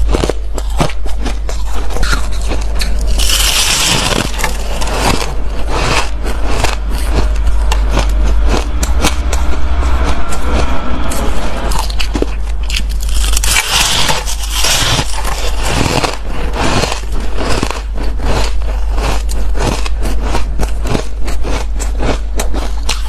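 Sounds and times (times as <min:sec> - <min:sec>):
ice being chewed: 0:00.0 - 0:23.0
steady low hum: 0:00.0 - 0:23.0.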